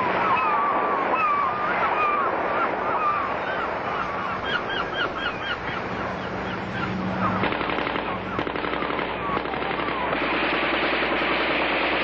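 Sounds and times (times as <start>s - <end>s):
birds calling: 0.0s - 11.6s.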